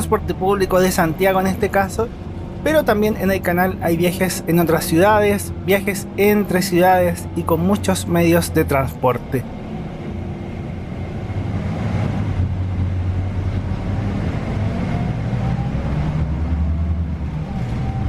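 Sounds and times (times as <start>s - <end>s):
bus diesel engine drone: 0.0s - 18.0s
road noise: 0.0s - 18.0s.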